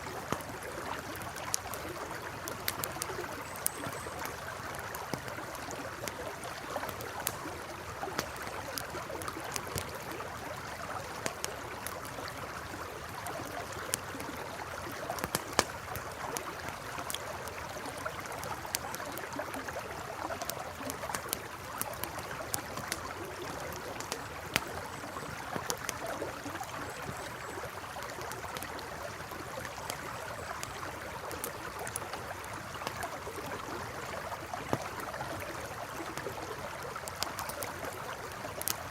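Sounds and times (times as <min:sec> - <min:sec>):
campfire crackling and popping: 0:00.0 - 0:38.9
river flowing: 0:00.0 - 0:38.9.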